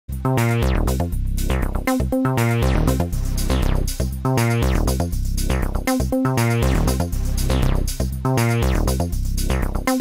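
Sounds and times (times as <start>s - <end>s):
low bass: 0.1s - 9.9s
techno synthesizer notes: 0.2s - 10.0s.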